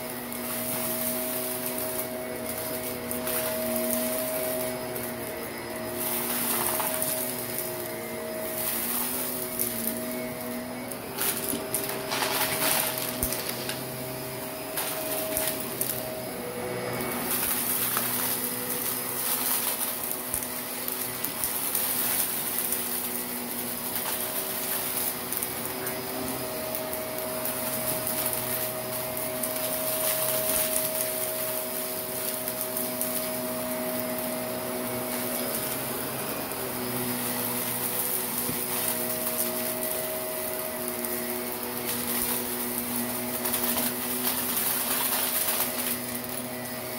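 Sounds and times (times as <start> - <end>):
grit crackling in vacuum: 0.0 - 46.9
vacuum cleaner running: 0.0 - 46.9.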